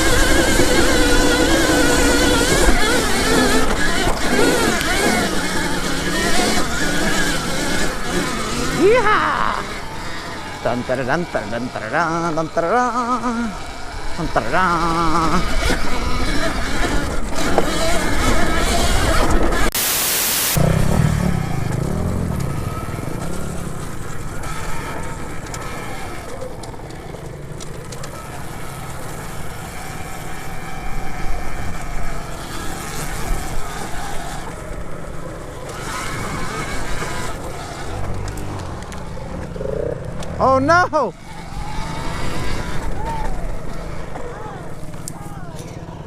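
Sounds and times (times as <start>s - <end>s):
tyres on dirt trail: 0.0s - 46.0s.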